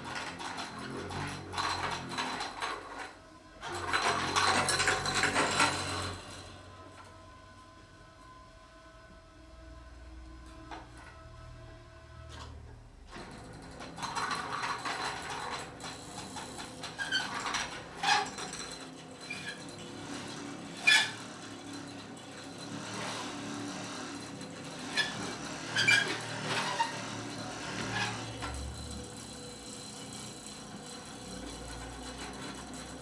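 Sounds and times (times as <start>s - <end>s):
hurdy-gurdy scrapes taps and rattles: 0.0s - 7.2s, 13.1s - 33.0s.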